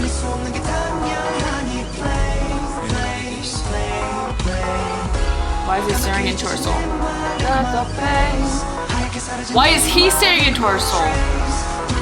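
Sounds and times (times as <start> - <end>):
live pop music with bass beat: 0.0 - 12.0.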